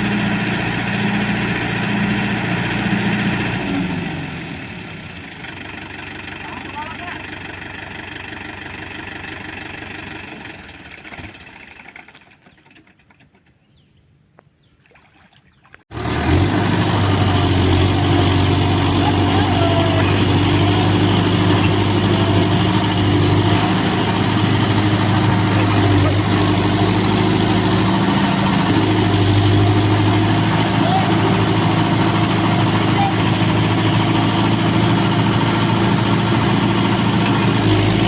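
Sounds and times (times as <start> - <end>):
tractor diesel engine running: 0.0 - 12.3, 15.9 - 38.0.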